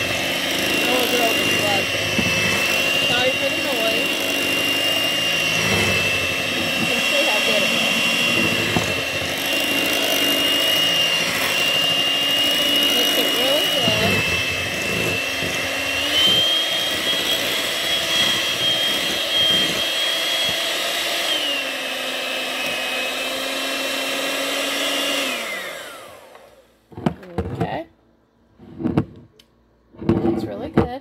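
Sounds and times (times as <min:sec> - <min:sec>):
electric hand mixer whining: 0:00.0 - 0:26.8.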